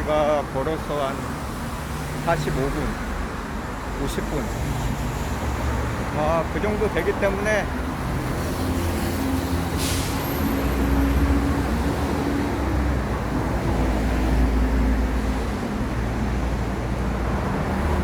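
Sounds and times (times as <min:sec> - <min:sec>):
heavy vehicle engine rumbling: 0:00.0 - 0:18.0.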